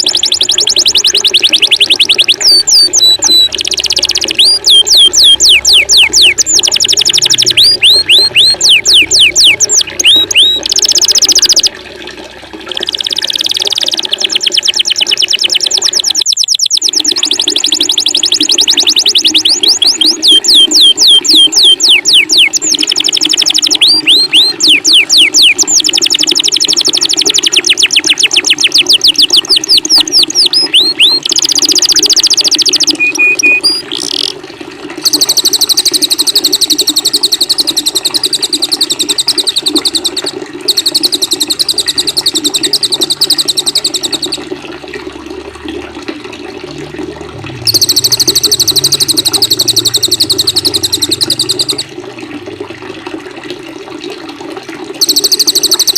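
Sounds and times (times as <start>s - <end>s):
songbirds whistling and trilling: 0.0s - 11.7s, 12.7s - 34.3s, 35.0s - 44.5s, 47.7s - 51.9s, 55.0s - 55.9s
running water: 0.0s - 55.9s.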